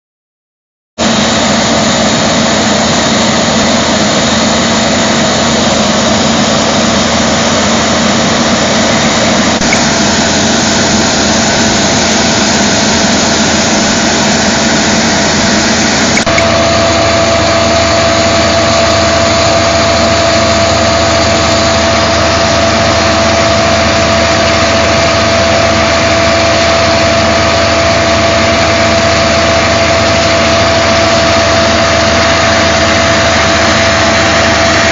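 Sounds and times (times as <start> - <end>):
machine mechanical drone with whine: 1.0 - 34.9.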